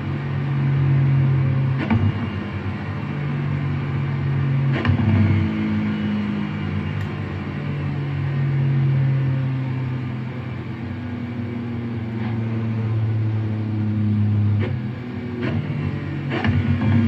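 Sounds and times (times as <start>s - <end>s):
sports car engine running: 0.0s - 17.0s.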